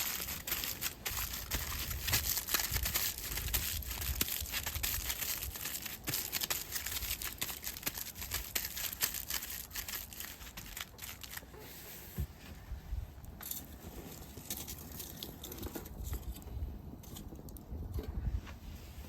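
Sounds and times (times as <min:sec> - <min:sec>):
crinkling and rustling handling: 0:00.0 - 0:19.0.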